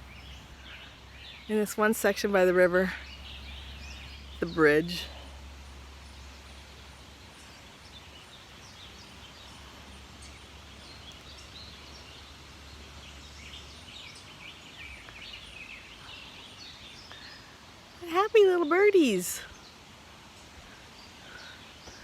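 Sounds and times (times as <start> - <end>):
songbirds chirping and singing: 0.0 - 22.0
steady outdoor hiss: 0.0 - 22.0.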